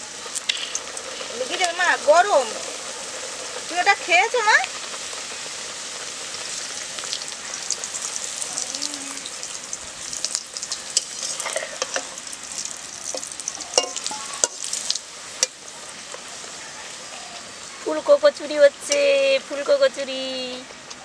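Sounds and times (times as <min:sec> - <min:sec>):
oil sizzling and crackling: 0:00.0 - 0:21.0.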